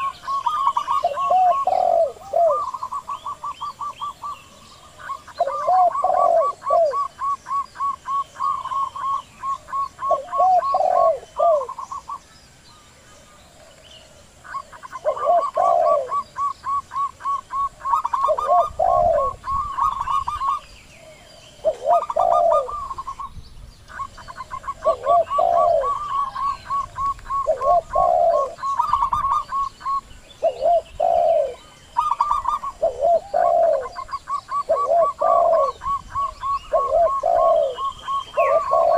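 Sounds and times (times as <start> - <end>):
doves cooing: 0.0 - 12.2, 14.4 - 38.9.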